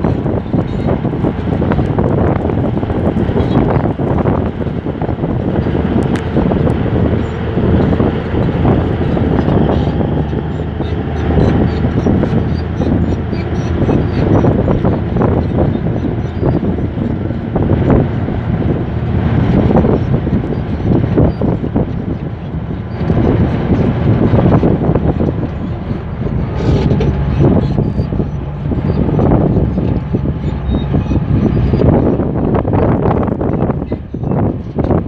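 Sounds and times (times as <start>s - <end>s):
bulldozer diesel engine rumbling: 0.0s - 35.0s.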